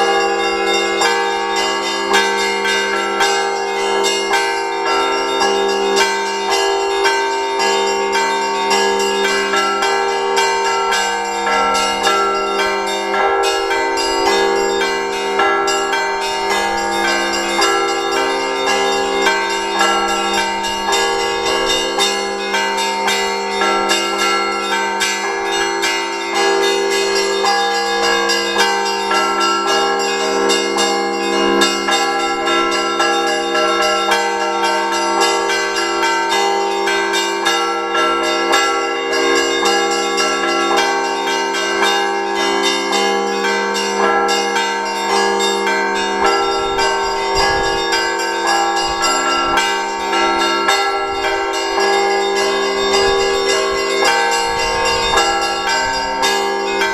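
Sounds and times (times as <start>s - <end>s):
large bells ringing: 0.0s - 56.9s
small bells ringing quickly: 0.0s - 56.9s.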